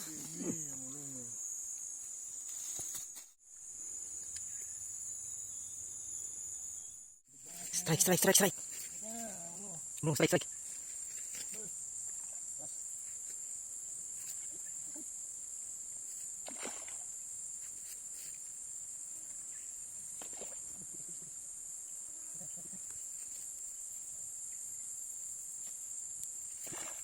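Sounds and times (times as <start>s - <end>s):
insects chorus: 0.0s - 27.0s.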